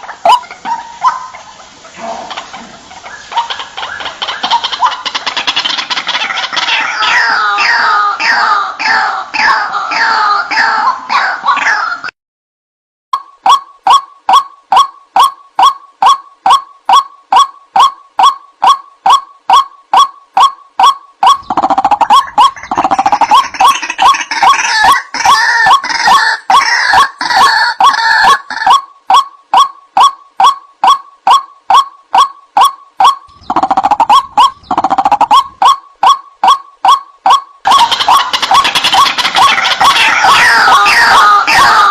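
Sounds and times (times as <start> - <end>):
waterhen calls: 0.0 - 12.1, 13.4 - 41.9.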